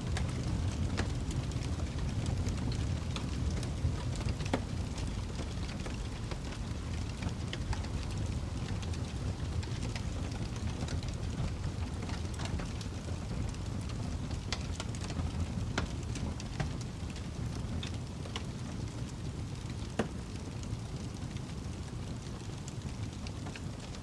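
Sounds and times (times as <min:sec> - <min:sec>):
burning logs crackling and popping: 0:00.0 - 0:24.0
fire rumbling: 0:00.0 - 0:24.0.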